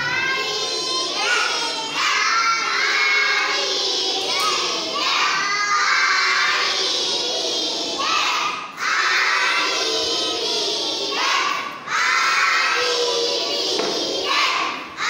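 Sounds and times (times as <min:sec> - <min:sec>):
children chanting in unison: 0:00.0 - 0:15.0.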